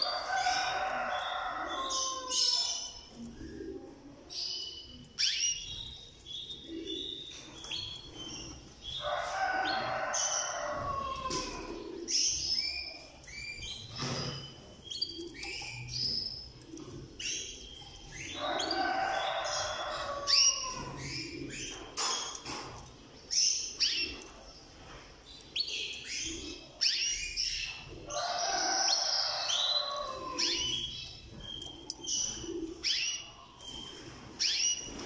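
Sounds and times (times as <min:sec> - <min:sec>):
canaries chirping: 0:00.0 - 0:35.0.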